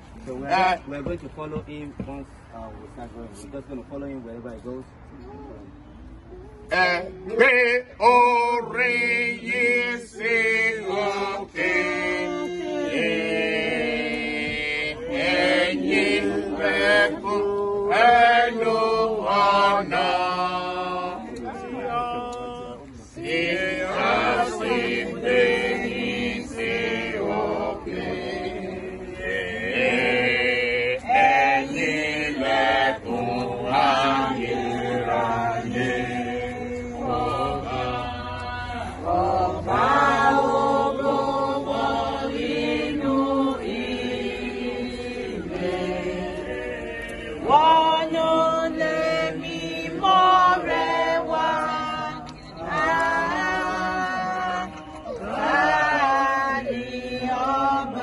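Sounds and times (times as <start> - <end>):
congregation singing a hymn: 6.7 - 58.0.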